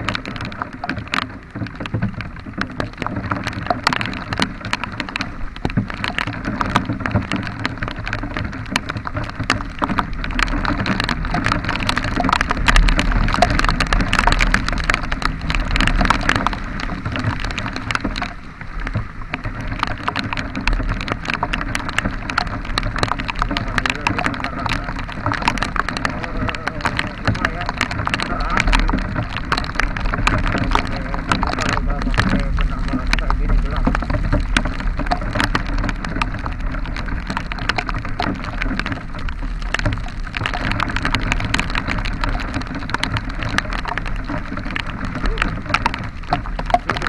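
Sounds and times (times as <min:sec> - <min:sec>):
heavy rain: 0:00.0 - 0:47.0
raindrops clicking on microphone: 0:00.0 - 0:47.0.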